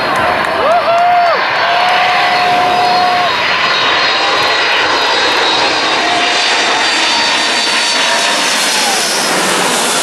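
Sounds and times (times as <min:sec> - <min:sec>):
high engine whine: 0:00.0 - 0:10.0
jet engines rushing: 0:00.0 - 0:10.0.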